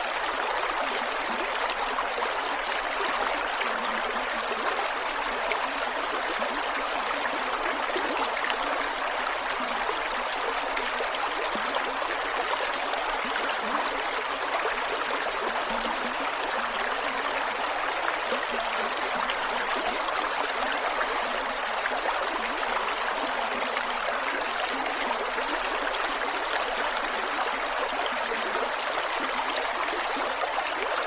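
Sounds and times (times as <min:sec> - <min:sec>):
creek water over rocks: 0:00.0 - 0:31.0.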